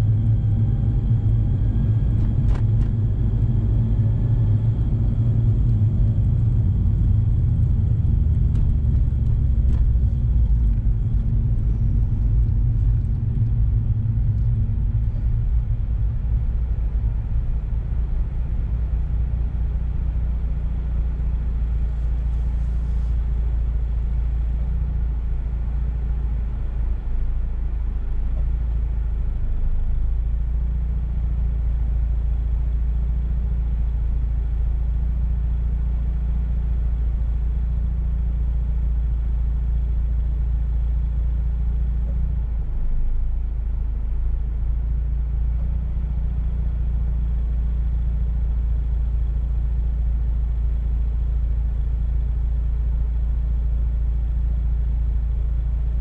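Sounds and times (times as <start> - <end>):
car engine idling inside cabin: 0.0 - 56.0.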